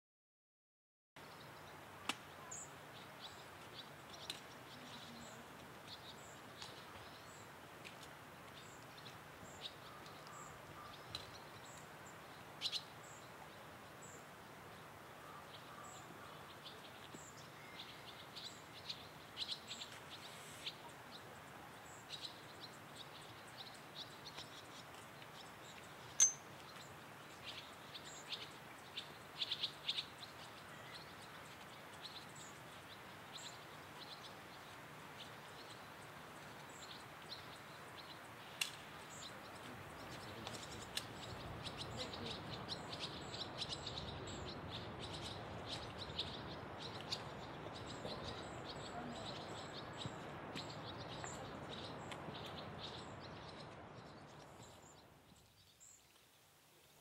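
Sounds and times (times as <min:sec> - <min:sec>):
small birds chirping: 0:01.2 - 0:57.0
steady faint hiss: 0:01.2 - 0:57.0.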